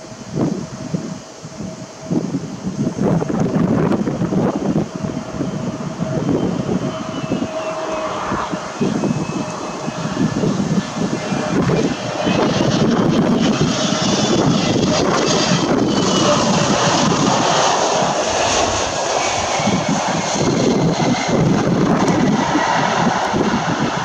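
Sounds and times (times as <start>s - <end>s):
jet engines of landing airliner: 0.0s - 24.0s
wind rumbling on microphone: 0.0s - 24.0s.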